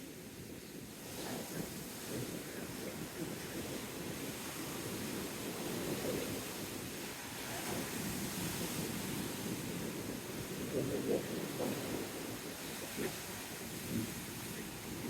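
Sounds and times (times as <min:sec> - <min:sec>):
surf: 0:00.0 - 0:15.0
wind buffeting microphone: 0:00.0 - 0:15.0.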